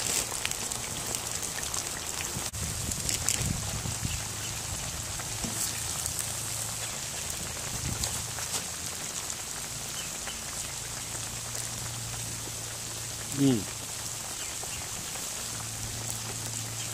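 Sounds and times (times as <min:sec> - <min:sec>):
fish deep-frying in oil: 0:00.0 - 0:16.9.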